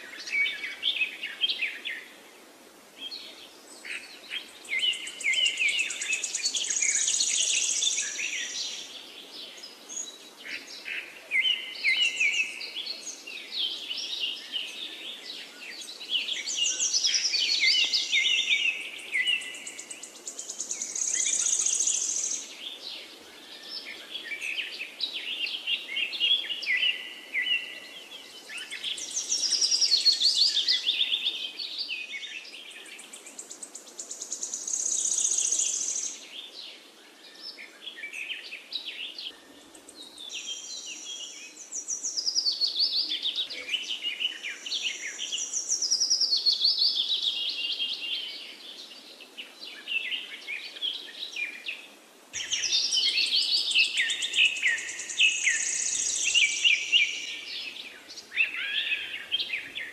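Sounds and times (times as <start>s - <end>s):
birds chirping and trilling: 3.0s - 59.9s.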